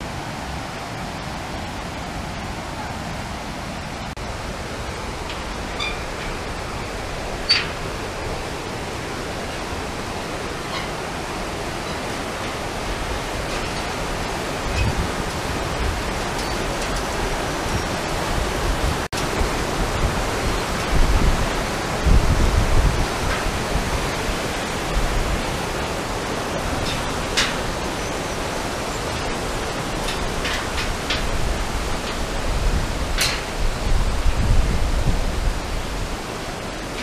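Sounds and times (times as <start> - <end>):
river rushing: 0.0 - 37.0
wind buffeting microphone: 4.2 - 37.0.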